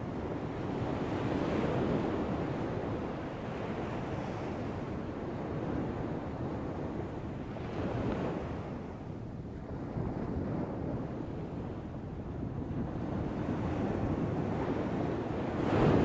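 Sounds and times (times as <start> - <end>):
surf washing on a beach: 0.0 - 16.0.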